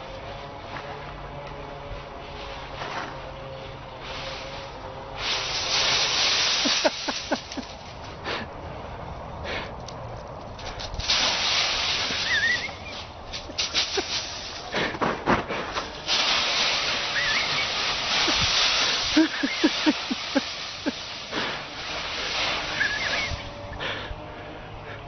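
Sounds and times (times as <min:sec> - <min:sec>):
leaves crackling: 0:00.0 - 0:08.2, 0:09.9 - 0:14.9, 0:15.7 - 0:23.7
dry leaves rustling: 0:00.0 - 0:24.3.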